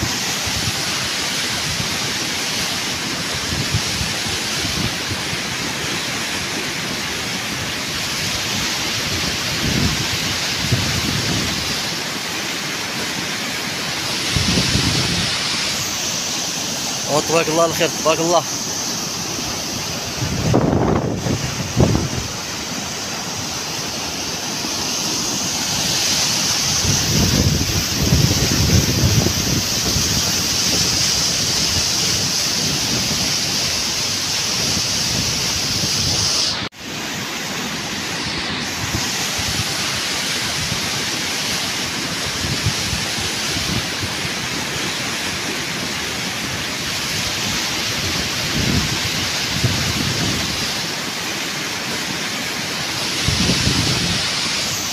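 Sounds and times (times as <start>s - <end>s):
flood water rushing: 0.0s - 54.9s.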